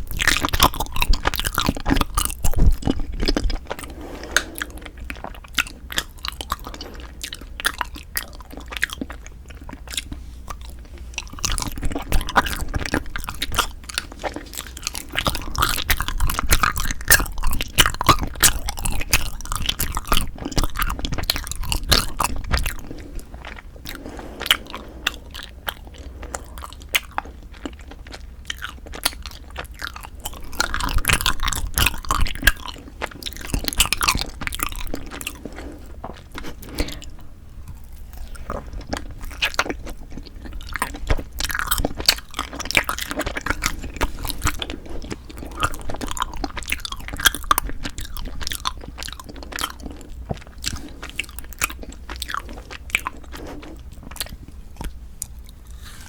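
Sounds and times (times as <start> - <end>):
close chewing and biting: 0.0 - 56.0.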